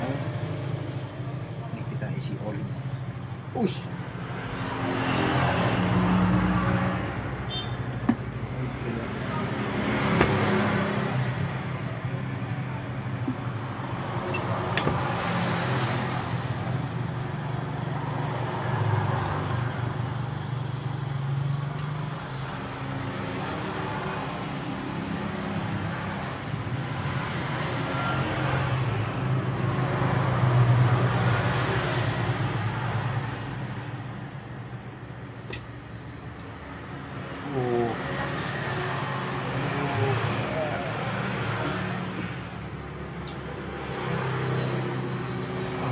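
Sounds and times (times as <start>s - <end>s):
traffic passing: 0.0s - 45.9s.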